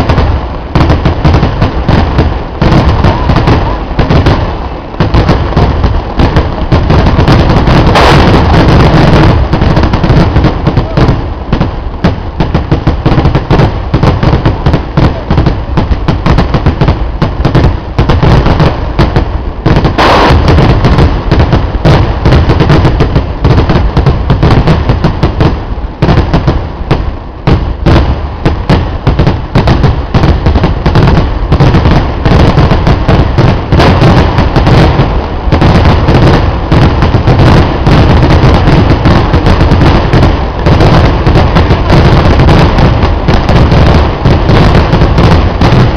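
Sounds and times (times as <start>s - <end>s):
firecracker blasts: 0.0s - 45.9s.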